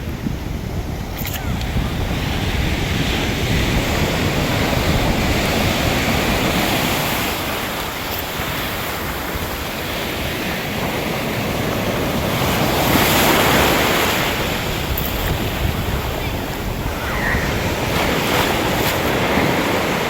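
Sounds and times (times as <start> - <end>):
sea waves washing on shore: 0.0 - 20.0
wind rumbling on microphone: 0.0 - 20.0.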